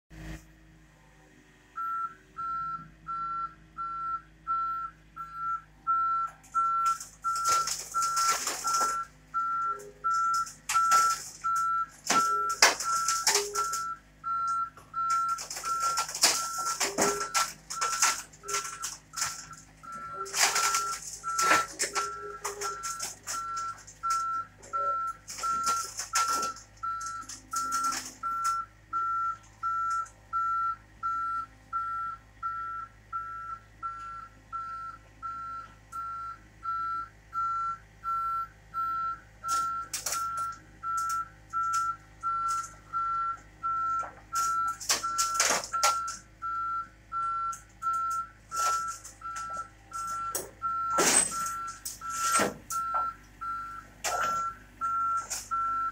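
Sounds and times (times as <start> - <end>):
diesel engine humming: 0.1 - 55.9
backup alarm beeping: 1.8 - 55.9.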